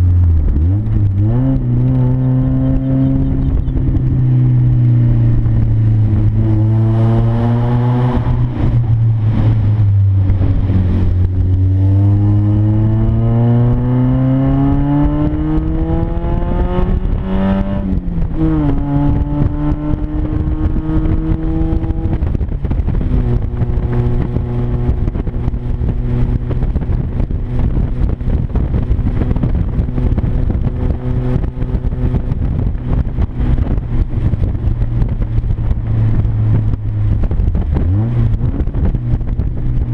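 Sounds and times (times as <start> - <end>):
loud car engine accelerating: 0.0 - 39.9.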